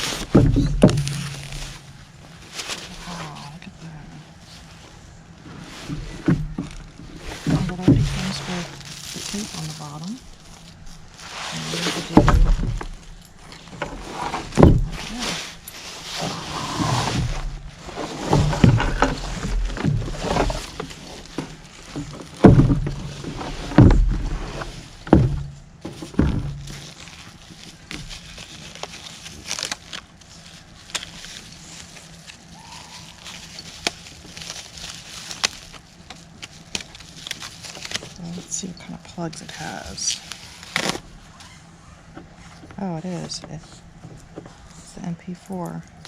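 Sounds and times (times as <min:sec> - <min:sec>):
packaging rustling and bumping: 0:00.0 - 0:44.7.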